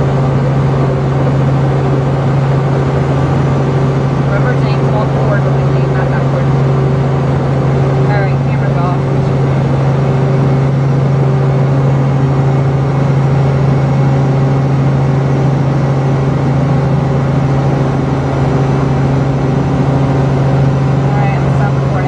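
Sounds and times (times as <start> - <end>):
helicopter drone: 0.0 - 22.0.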